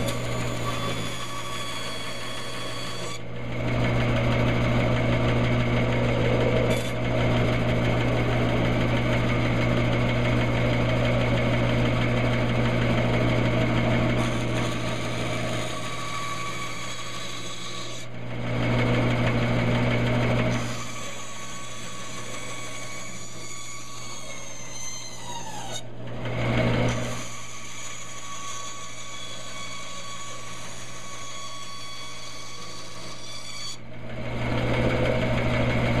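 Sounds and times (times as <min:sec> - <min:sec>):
bandsaw motor hum: 0:00.0 - 0:36.0
saw blade cutting wood: 0:00.0 - 0:36.0.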